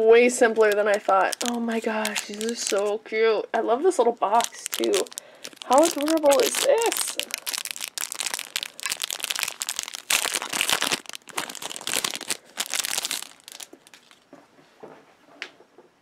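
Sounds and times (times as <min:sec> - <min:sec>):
cellophane wrapper crinkling: 0:00.5 - 0:03.0, 0:03.9 - 0:14.3.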